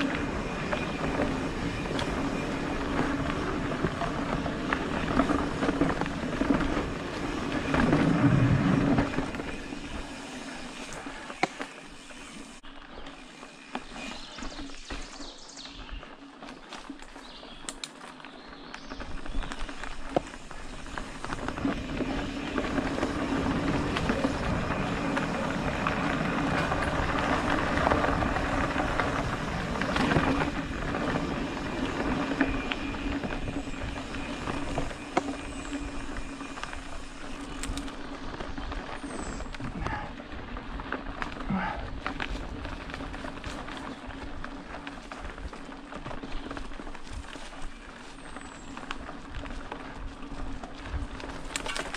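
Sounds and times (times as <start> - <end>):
tyre and trail noise: 0.0 - 51.9.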